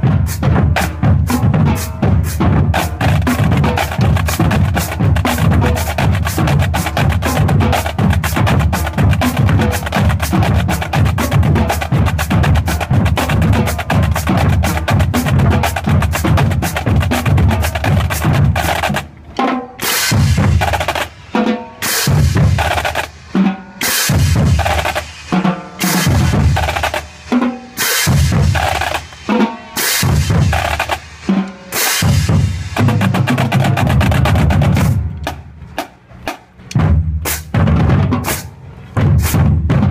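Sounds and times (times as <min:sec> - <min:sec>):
bass drums: 0:00.0 - 0:21.2, 0:22.0 - 0:23.1, 0:24.0 - 0:27.2, 0:28.0 - 0:31.3, 0:32.0 - 0:39.9
marching drumline playing: 0:00.0 - 0:39.9
snare drum rolls: 0:00.0 - 0:39.9.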